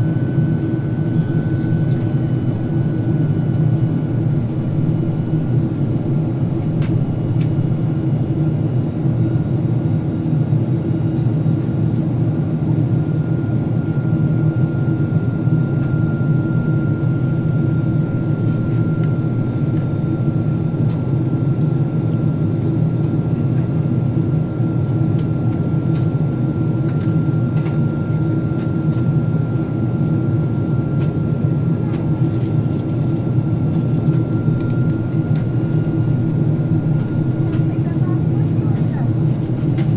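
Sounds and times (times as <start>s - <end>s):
airliner cabin drone: 0.0s - 39.9s
engine and airflow noise: 0.0s - 39.9s.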